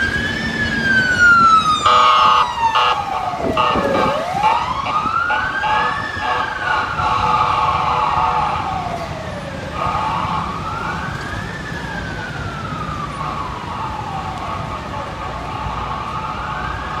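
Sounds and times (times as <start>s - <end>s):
ambulance siren wailing: 0.0s - 17.0s
low rumble of city traffic: 0.0s - 17.0s.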